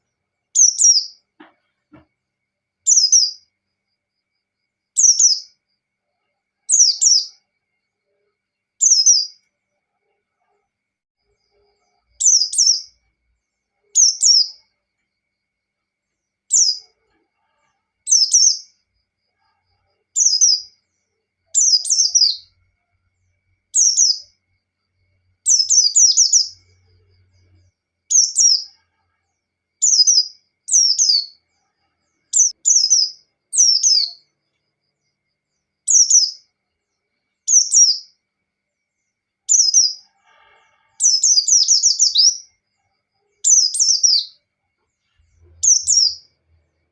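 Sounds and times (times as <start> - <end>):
bird chirping: 0.0 - 2.1, 2.8 - 3.6, 4.6 - 10.6, 11.2 - 15.4, 16.0 - 40.1, 40.9 - 46.9.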